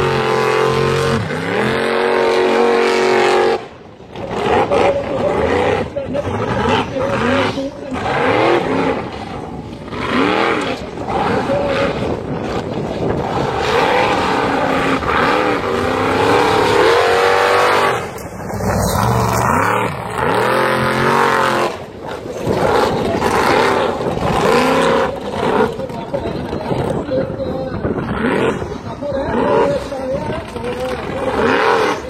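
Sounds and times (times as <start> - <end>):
car engine revving at full throttle: 0.0 - 32.0.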